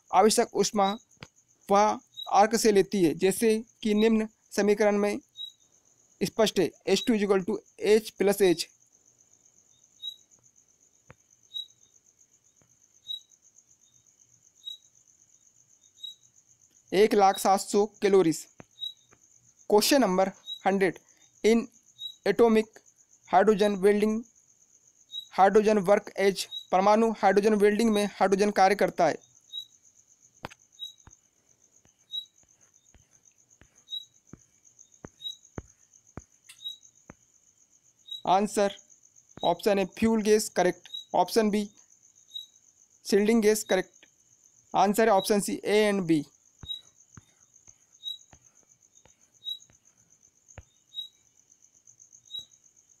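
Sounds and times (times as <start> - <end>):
insect chirp: 0.0 - 53.0
insects trilling: 0.0 - 53.0.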